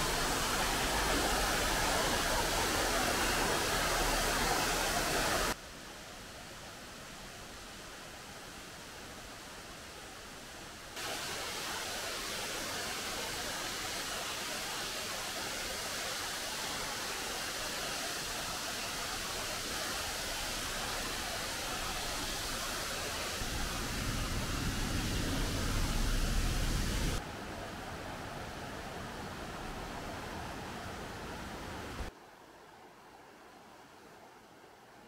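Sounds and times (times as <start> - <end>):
stream and waterfall rushing: 0.0 - 33.6.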